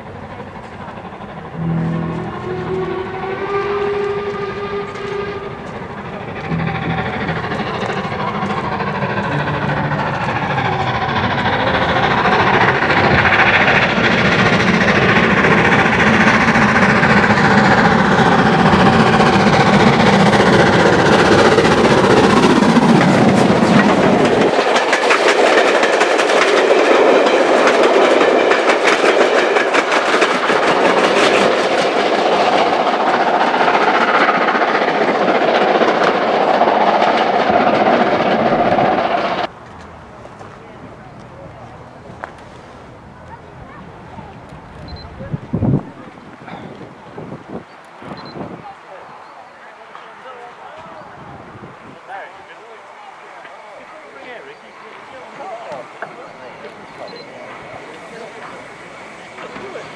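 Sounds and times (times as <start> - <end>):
train wheels clattering over rail joints: 0.0 - 43.6, 53.4 - 59.9
steam locomotive passing: 0.0 - 59.9.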